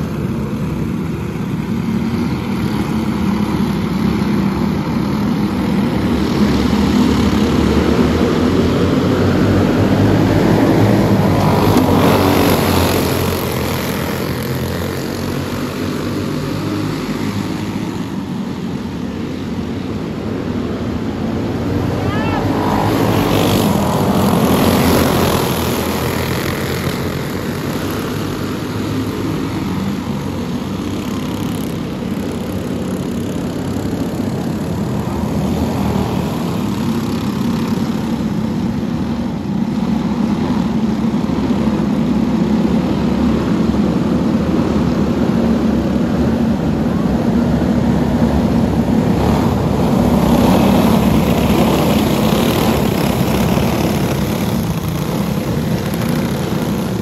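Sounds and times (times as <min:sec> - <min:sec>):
racing kart engines buzzing: 0:00.0 - 0:57.0.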